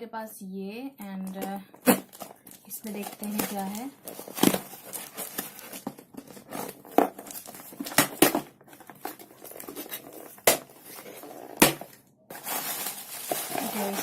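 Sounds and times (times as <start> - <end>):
packaging rustling and ripping: 1.7 - 14.0.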